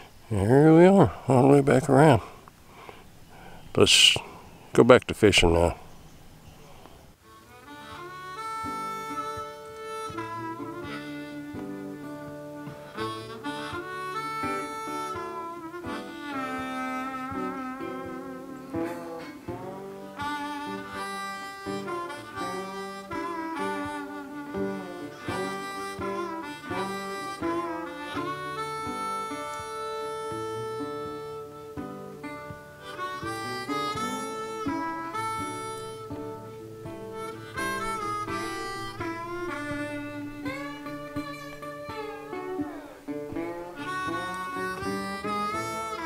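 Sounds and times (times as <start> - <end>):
background music with bending melody: 7.2 - 46.0.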